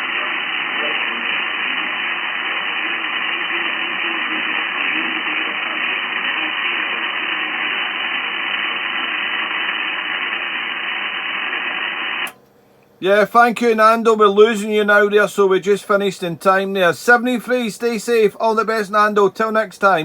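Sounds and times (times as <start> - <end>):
faint distant radio station: 0.0 - 20.0
radio static hiss: 0.0 - 20.0.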